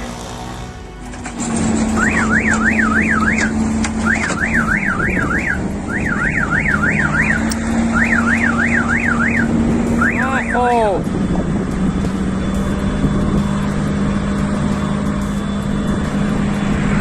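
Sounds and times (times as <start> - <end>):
electronic warning alarm warbling: 1.6 - 15.9.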